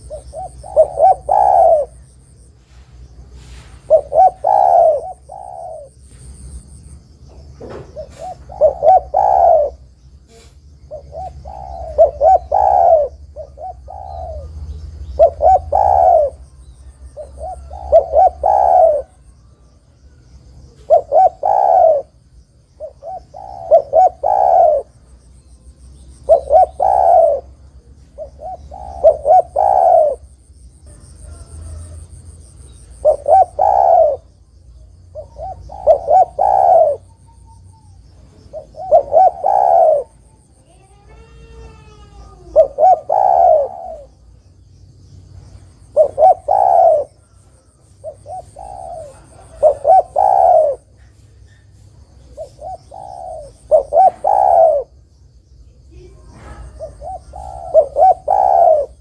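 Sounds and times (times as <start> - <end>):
dove cooing: 0.0 - 6.5, 7.6 - 44.4, 45.6 - 55.0, 55.8 - 59.0.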